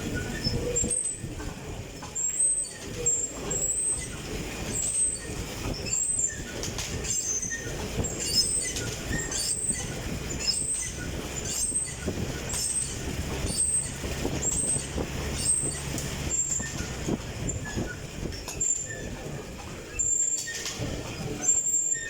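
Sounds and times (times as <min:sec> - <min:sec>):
exercise bike rumble: 0:00.0 - 0:22.0
high squeak: 0:02.2 - 0:18.0, 0:19.9 - 0:22.0.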